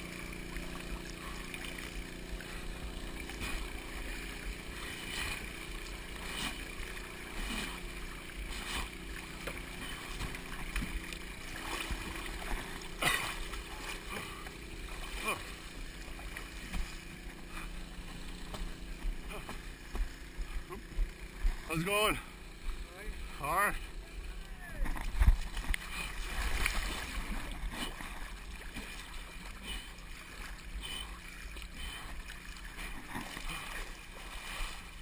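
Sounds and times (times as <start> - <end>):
water sloshing and splashing: 0.0 - 35.0.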